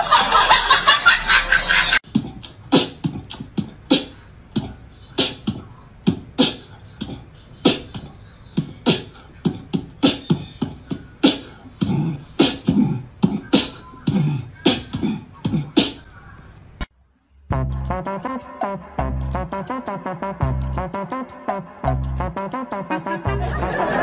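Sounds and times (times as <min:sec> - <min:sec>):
beatboxing: 0:02.0 - 0:16.2, 0:17.5 - 0:24.0.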